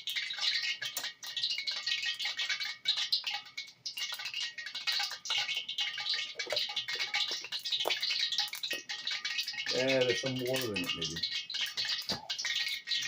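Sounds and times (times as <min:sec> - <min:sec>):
hot oil crackling in a pan: 0:00.0 - 0:13.0.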